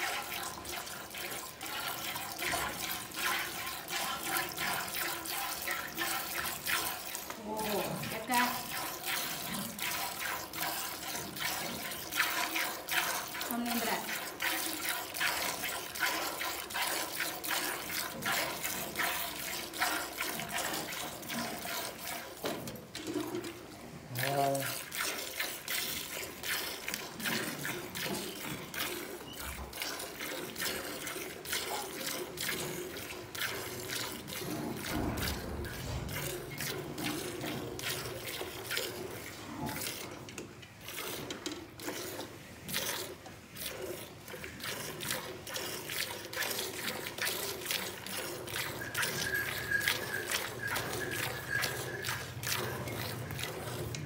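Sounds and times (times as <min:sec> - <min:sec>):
milk squirting into a pail: 0:00.0 - 0:54.0.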